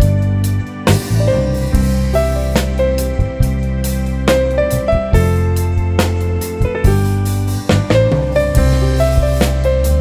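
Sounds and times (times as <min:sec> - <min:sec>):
keyboard notes: 0:00.0 - 0:10.0
sustained low bass line: 0:00.0 - 0:10.0.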